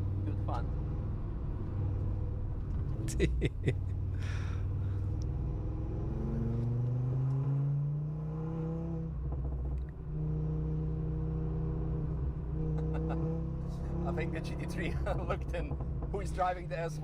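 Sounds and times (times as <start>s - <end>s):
car engine pulling hard: 0.0s - 17.0s.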